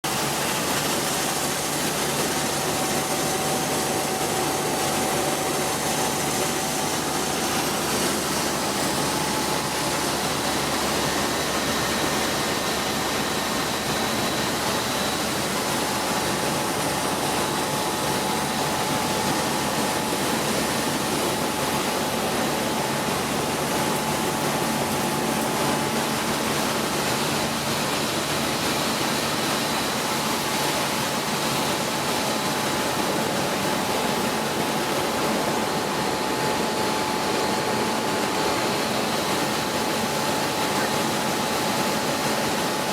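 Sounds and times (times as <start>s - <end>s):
milling machine running: 0.0s - 42.9s.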